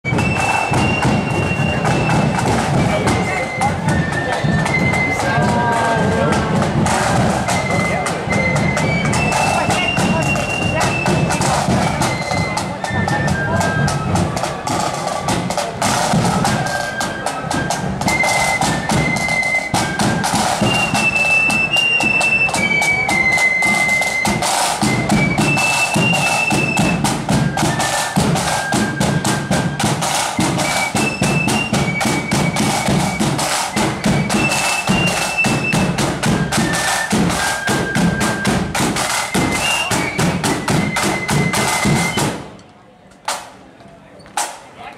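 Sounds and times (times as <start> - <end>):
flute melody: 0.0 - 42.5
snare drums: 0.0 - 42.6, 43.3 - 43.7, 44.4 - 44.7.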